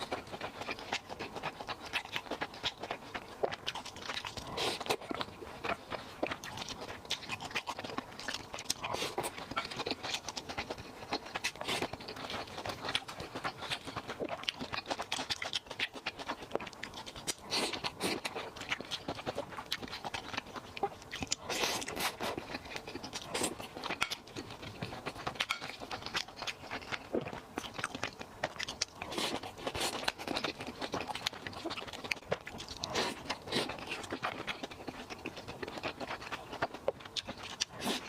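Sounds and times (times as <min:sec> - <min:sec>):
chewing and crunching food: 0:00.0 - 0:38.0.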